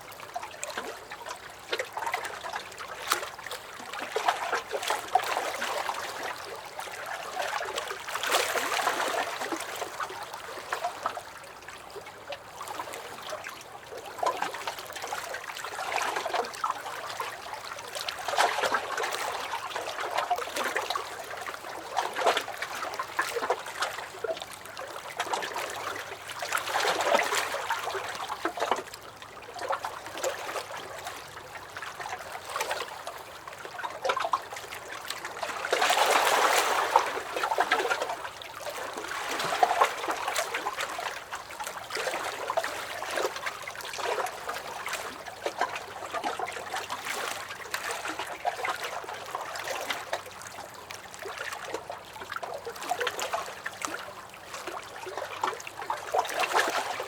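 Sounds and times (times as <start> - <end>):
waves lapping against a dock: 0.0 - 57.0.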